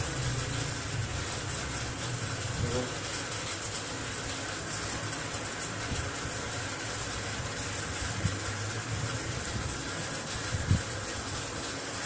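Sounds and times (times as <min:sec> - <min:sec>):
hiss: 0:00.0 - 0:12.0.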